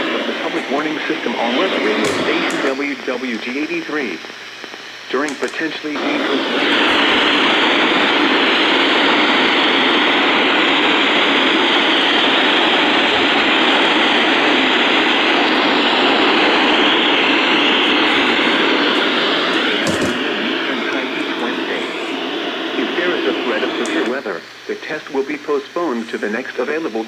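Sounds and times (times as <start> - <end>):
radio pop: 0.0 - 25.1
radio static hiss: 0.0 - 27.0.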